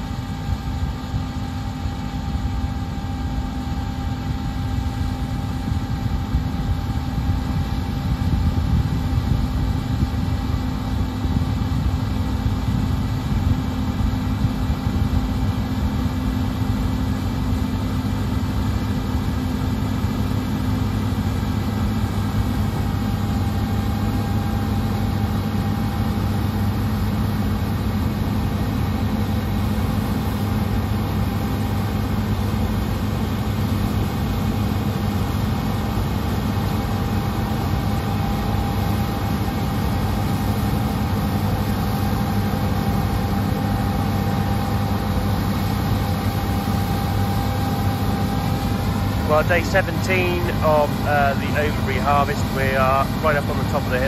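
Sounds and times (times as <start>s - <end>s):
combine harvester engine drone: 0.0s - 54.0s
faint steady whine: 0.0s - 54.0s.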